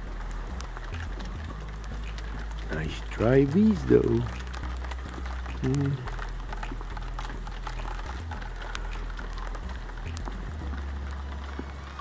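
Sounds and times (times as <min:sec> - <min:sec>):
low wind rumble: 0:00.0 - 0:12.0
sharp drips and ticks: 0:00.0 - 0:12.0
steady rain falling: 0:00.0 - 0:12.0.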